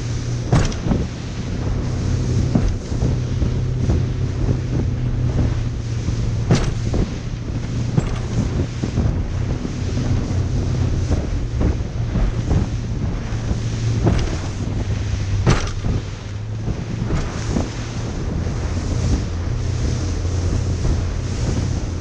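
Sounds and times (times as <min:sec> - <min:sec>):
boat engine running: 0:00.0 - 0:22.0
sea wash: 0:00.0 - 0:22.0
wind buffeting microphone: 0:00.0 - 0:22.0.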